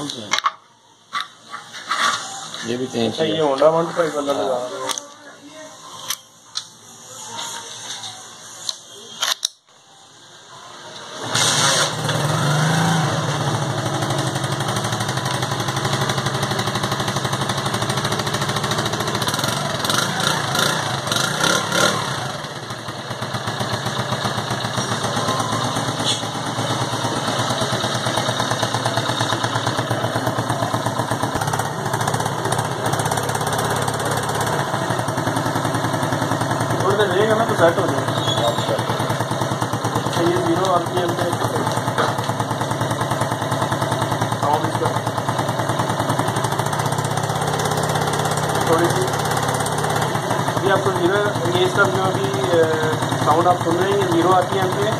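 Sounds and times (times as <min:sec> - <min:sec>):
motorcycle engine starting and idling: 0:10.9 - 0:54.9.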